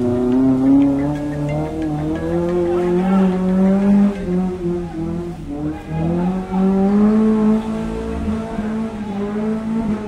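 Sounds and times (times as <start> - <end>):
engine revving high: 0.0 - 10.0.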